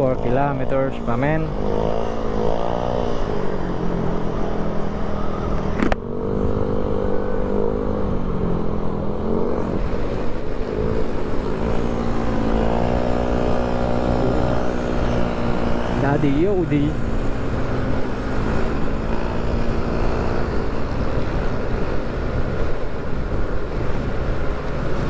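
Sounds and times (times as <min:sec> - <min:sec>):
scooter engine running: 0:00.0 - 0:25.0
wind rushing over microphone: 0:00.0 - 0:25.0.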